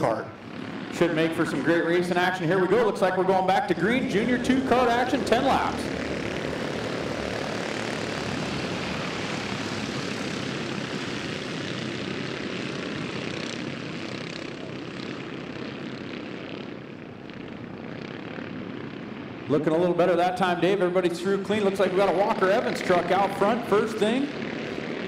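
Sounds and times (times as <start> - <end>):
kart engines buzzing: 0.0 - 25.0.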